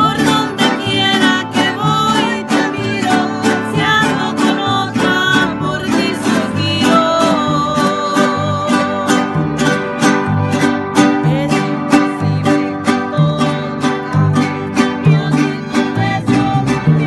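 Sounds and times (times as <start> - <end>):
small strummed string instrument: 0.0 - 17.0
strummed acoustic guitar: 0.0 - 17.0
women singing: 0.0 - 17.0.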